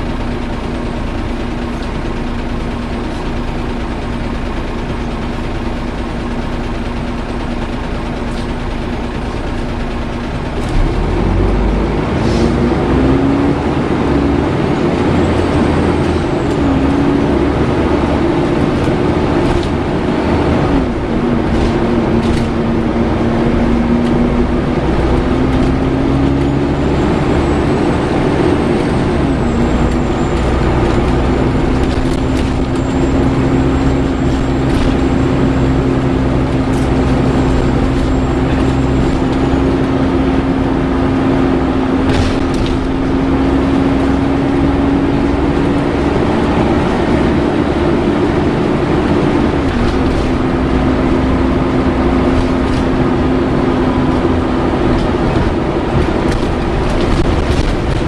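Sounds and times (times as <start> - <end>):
bus cooling fan whine: 0.0 - 58.0
engine and road rumble: 0.0 - 58.0.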